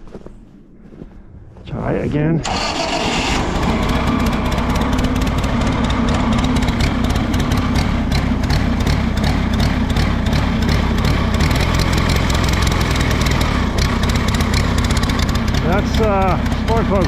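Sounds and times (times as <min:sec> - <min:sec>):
tractor engine idling unevenly: 0:02.4 - 0:17.0.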